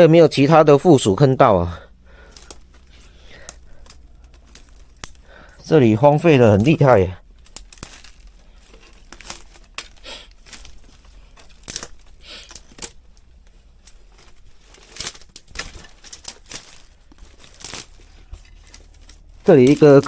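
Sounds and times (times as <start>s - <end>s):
twigs crackling and snapping: 1.8s - 20.0s
footsteps crunching on dry debris: 1.9s - 20.0s.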